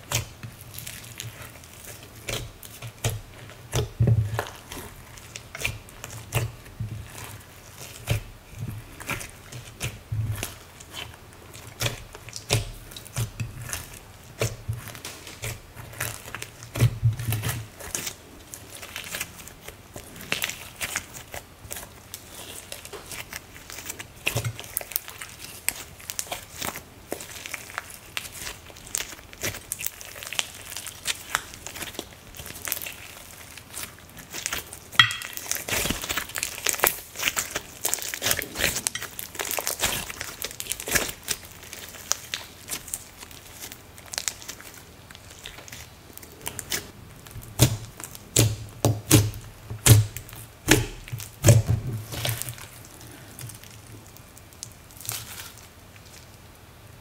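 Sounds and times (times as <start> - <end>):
hands squishing sticky slime: 0.0 - 56.4.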